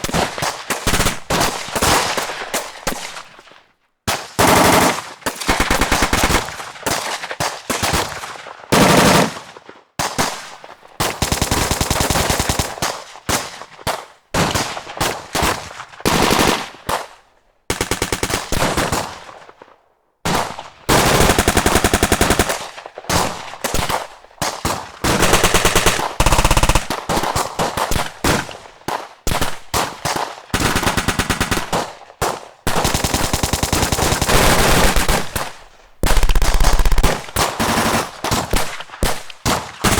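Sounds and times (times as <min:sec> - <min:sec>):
machine-gun fire bursts: 0:00.0 - 0:03.1, 0:04.1 - 0:09.5, 0:10.1 - 0:13.6, 0:14.4 - 0:17.1, 0:17.7 - 0:19.4, 0:20.3 - 0:39.9.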